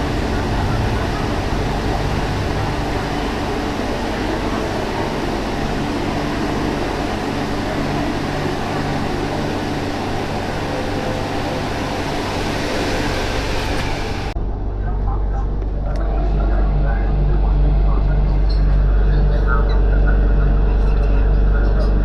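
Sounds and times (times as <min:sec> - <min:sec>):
low hum: 0:00.0 - 0:22.0
train carriage rumble: 0:00.0 - 0:22.0.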